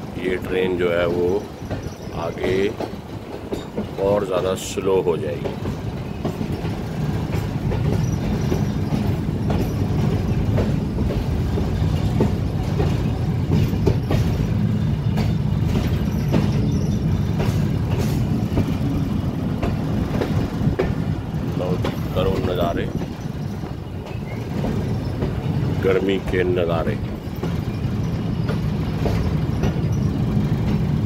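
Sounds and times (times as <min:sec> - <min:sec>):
train rumbling: 0:00.0 - 0:31.0
wheels clacking over rail joints: 0:00.0 - 0:31.0.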